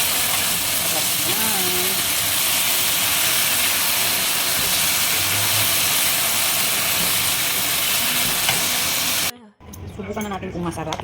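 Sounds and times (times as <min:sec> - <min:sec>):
eggplant sizzling in oil: 0:00.0 - 0:09.3.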